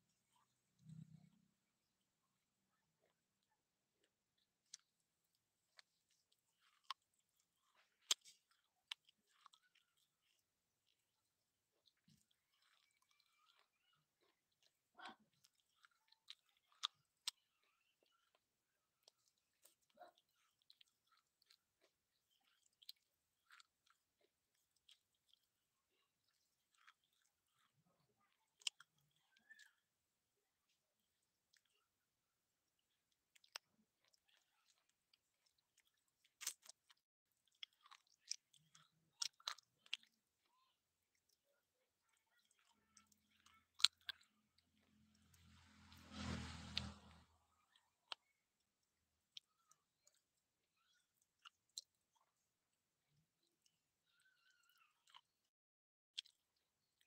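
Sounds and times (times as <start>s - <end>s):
chewing dry clay: 0.0s - 57.0s.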